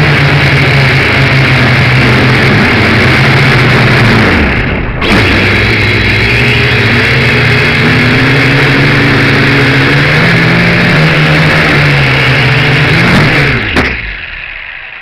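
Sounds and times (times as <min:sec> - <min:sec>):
drone propellers buzzing: 0:00.0 - 0:15.0
propeller wash rushing: 0:00.0 - 0:15.0.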